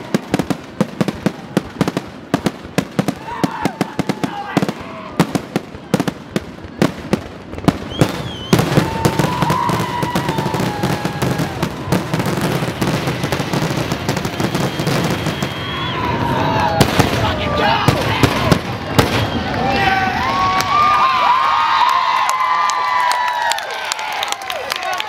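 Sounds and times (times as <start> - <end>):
fireworks whistling: 0.0 - 20.4
fireworks bangs and crackles: 0.0 - 21.0.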